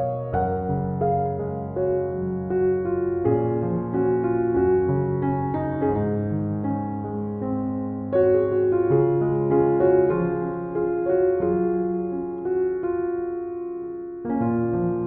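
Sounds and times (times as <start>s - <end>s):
soft slow solo piano: 0.0s - 15.0s.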